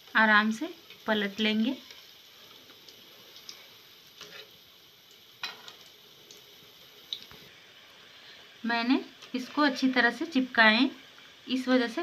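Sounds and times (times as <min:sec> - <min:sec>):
dough deep-frying sizzle: 0:00.0 - 0:12.0.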